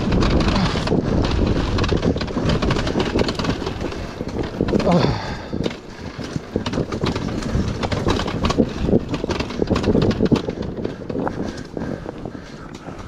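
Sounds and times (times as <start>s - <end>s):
clatter of knocks and impacts: 0.0s - 13.0s
dirt bike engine running: 0.0s - 13.0s.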